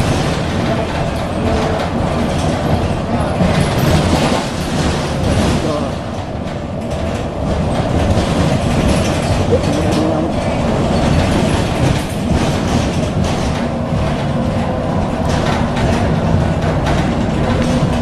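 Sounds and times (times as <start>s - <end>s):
bus body and windows rattling: 0.0s - 18.0s
bus engine and road noise: 0.0s - 18.0s.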